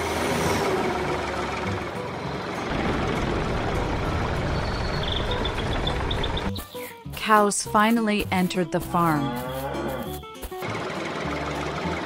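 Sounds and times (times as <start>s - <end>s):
tractor engine rumbling: 0.0s - 6.6s, 8.2s - 12.0s.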